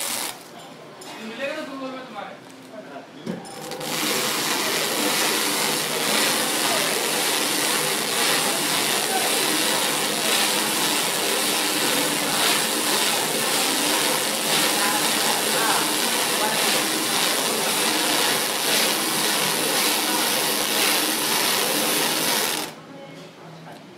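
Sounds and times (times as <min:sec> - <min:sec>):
wrapping machine running: 0:00.0 - 0:00.5, 0:03.5 - 0:22.8.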